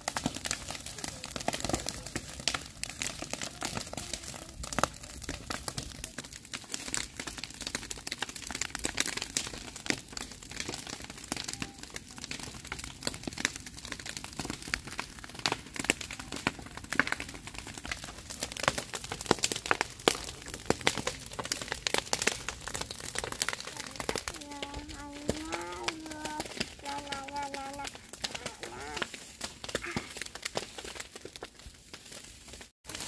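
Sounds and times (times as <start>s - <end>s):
dry grass burning and crackling: 0.0s - 33.0s.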